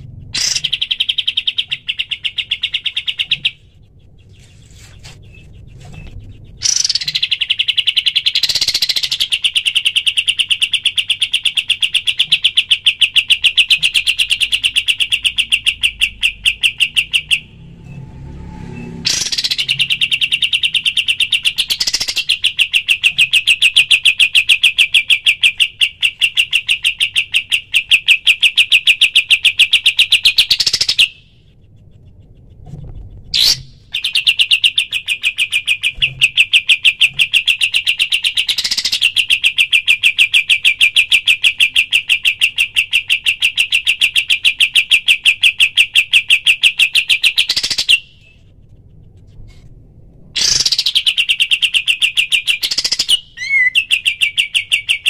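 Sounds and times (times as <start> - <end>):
songbird trilling: 0.2 - 17.5, 19.1 - 32.6, 33.2 - 48.2, 50.4 - 55.0.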